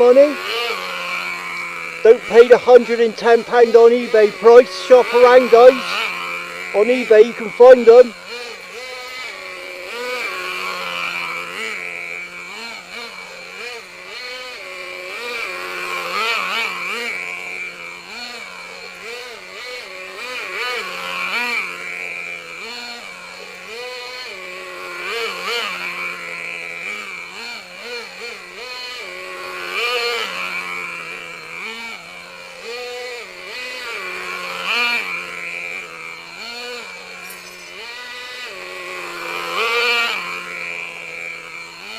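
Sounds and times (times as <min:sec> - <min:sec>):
model truck engine revving: 0:00.0 - 0:41.9.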